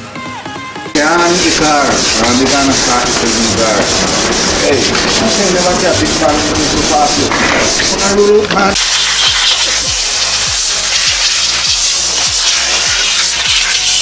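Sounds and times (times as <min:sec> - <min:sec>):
hand sanding plastic: 0:01.0 - 0:14.0.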